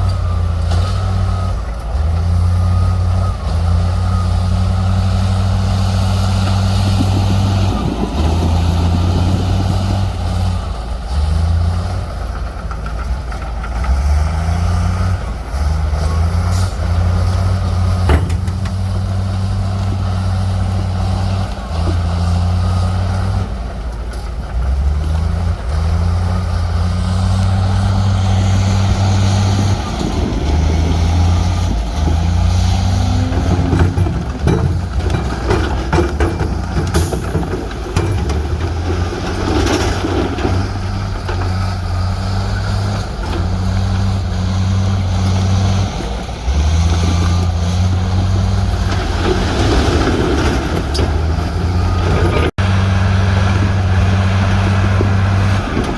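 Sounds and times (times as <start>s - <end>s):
heavy diesel engine working: 0.0s - 55.9s.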